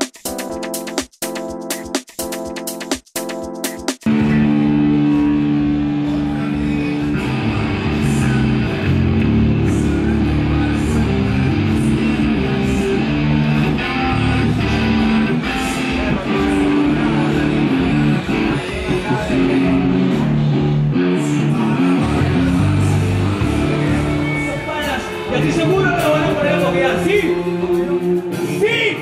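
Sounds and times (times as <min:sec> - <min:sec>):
drums: 0:00.0 - 0:29.0
electric guitar and bass: 0:04.1 - 0:29.0.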